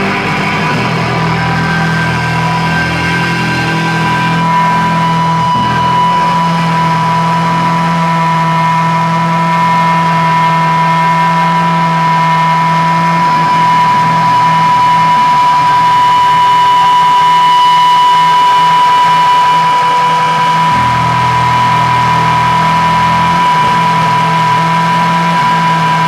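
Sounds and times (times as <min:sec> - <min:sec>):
guitar amplifier feedback ringing: 0:00.0 - 0:26.0
held low guitar note: 0:00.0 - 0:26.0.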